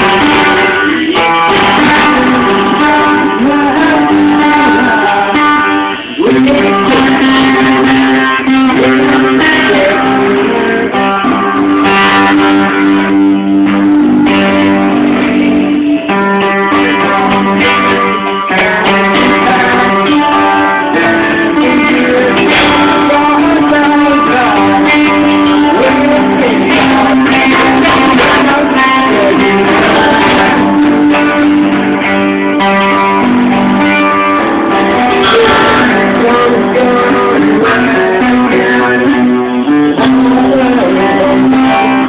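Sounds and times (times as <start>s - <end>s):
electric guitar pitch bends: 0.0s - 42.0s
rock band playing live: 0.0s - 42.0s.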